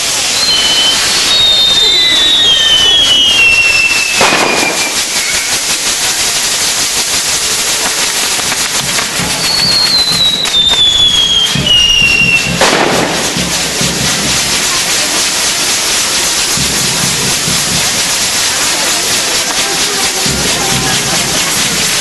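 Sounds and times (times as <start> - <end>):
falling firework whistles: 0.0 - 22.0
firework bangs: 0.0 - 22.0
fireworks crackling and hissing: 0.0 - 22.0.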